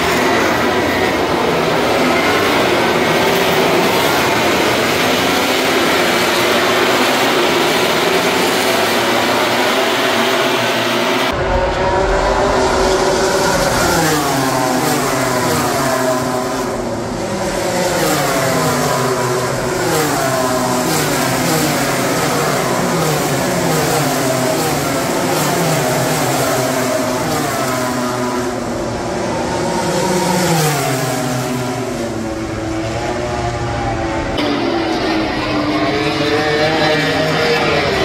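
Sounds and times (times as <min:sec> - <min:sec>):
racing motorcycle engines downshifting: 0:00.0 - 0:38.0.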